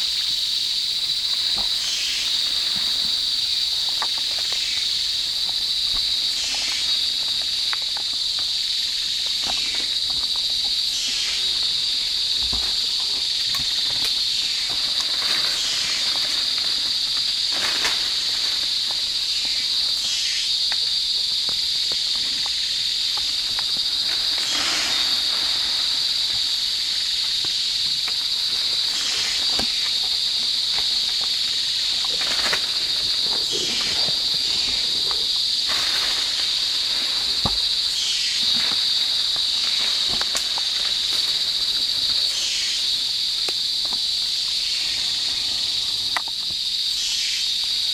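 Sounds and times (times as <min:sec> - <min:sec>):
insect chorus drone: 0:00.0 - 0:47.9
louder insect call: 0:00.0 - 0:47.9.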